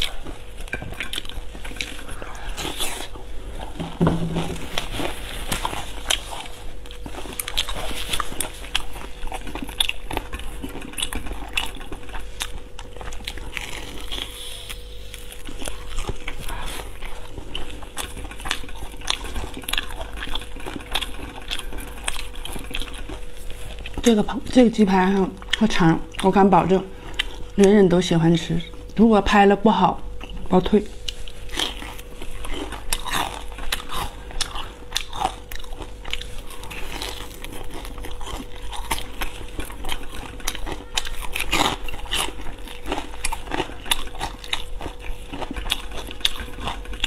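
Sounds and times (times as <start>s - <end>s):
chewing and biting crispy food: 0.0s - 29.0s, 30.1s - 47.0s
faint steady hum: 0.0s - 47.0s.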